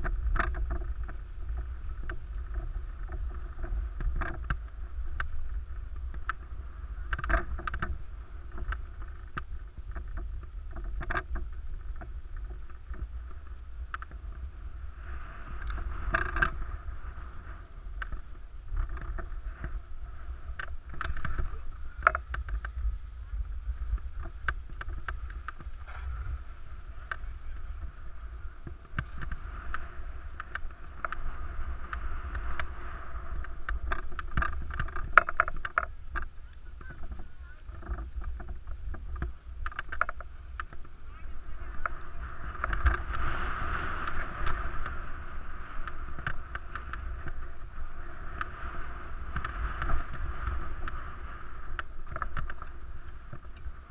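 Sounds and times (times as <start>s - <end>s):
low wind rumble on microphone: 0.0s - 53.9s
skis scraping over snow: 0.0s - 53.9s.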